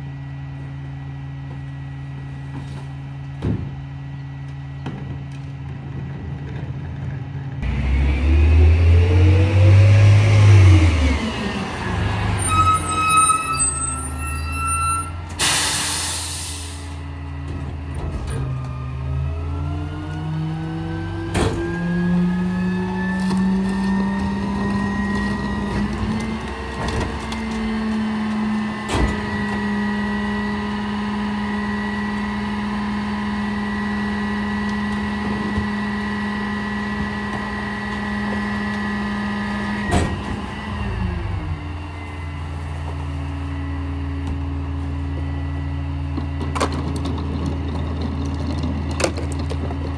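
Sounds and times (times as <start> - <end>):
diesel engine revving: 6.0 - 49.9.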